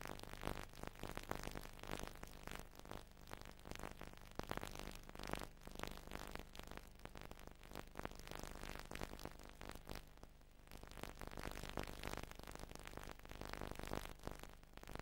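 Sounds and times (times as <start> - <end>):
faint crackling and hiss: 0.0 - 15.0.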